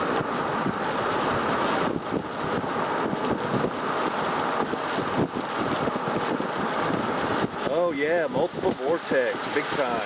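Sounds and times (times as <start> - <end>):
wind blowing across microphone: 0.0 - 10.0.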